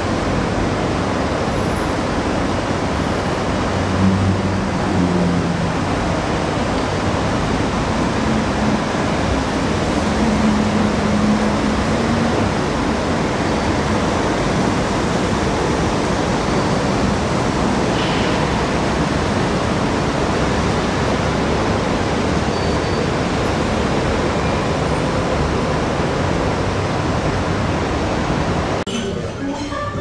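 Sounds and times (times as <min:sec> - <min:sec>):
loud steady rushing noise: 0:00.0 - 0:30.0.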